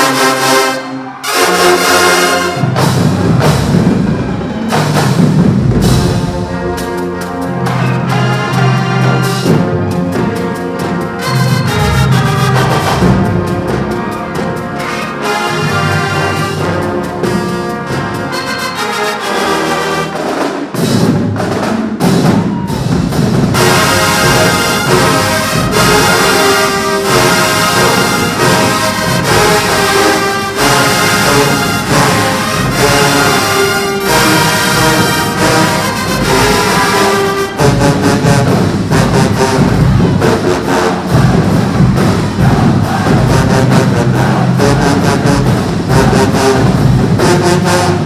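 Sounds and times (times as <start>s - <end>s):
low brass: 0.0s - 20.5s, 22.6s - 48.0s
heavy drums: 0.0s - 48.0s
marching band brass chords: 0.0s - 48.0s.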